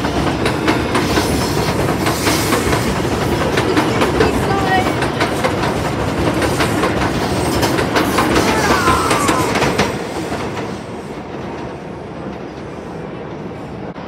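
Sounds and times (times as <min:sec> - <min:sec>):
train wheels clacking over rail joints: 0:00.0 - 0:12.7.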